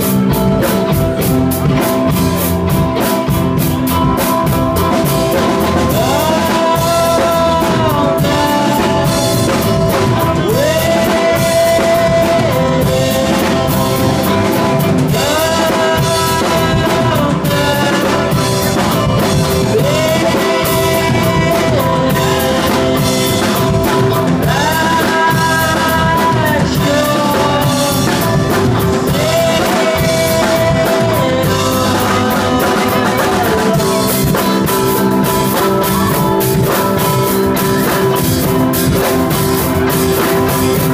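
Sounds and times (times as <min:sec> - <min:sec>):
rock band playing loudly: 0:00.0 - 0:40.9
sliding guitar melody: 0:00.0 - 0:40.9.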